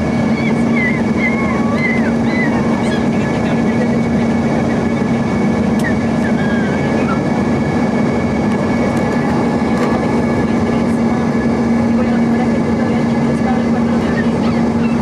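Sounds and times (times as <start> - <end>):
jet engine and airflow rush: 0.0 - 15.0
low steady hum: 0.0 - 15.0.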